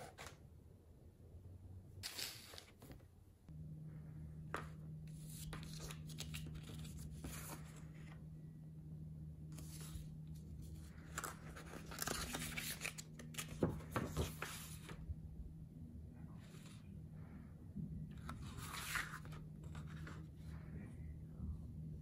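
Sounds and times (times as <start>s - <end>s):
steady low hum: 2.7s - 22.0s.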